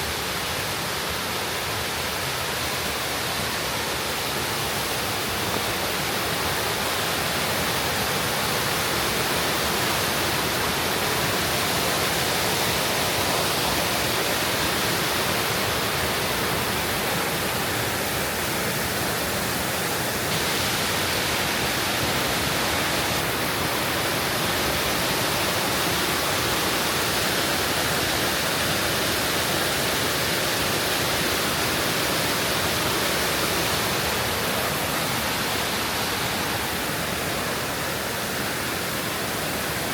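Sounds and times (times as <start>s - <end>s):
mountain water rushing: 0.0s - 39.9s.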